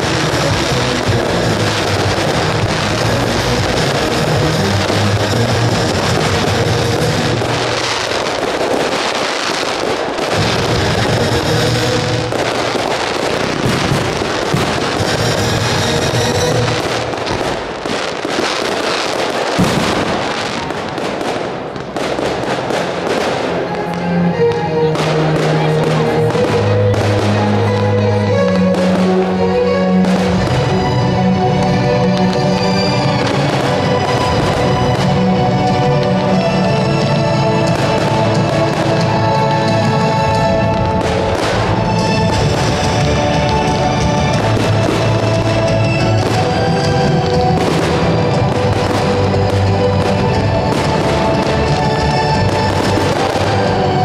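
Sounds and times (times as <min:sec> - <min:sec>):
fireworks bursting and crackling: 0:00.0 - 0:54.0
music: 0:00.0 - 0:54.0.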